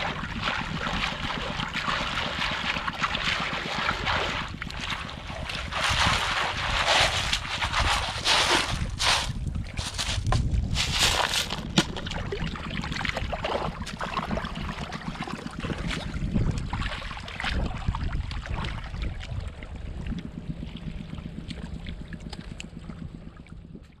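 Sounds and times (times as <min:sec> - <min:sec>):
seawater sloshing and splashing: 0:00.0 - 0:23.7
wind rumble on microphone: 0:00.0 - 0:24.0.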